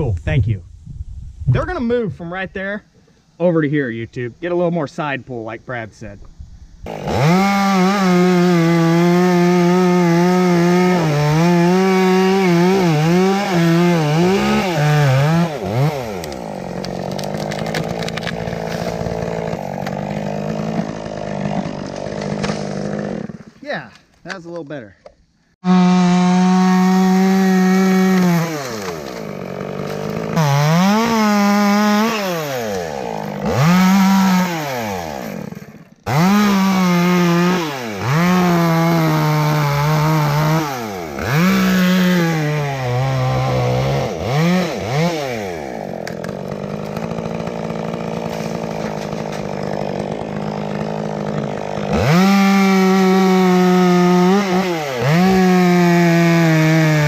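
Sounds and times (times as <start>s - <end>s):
chainsaw cutting wood: 6.8s - 23.6s, 25.6s - 57.0s.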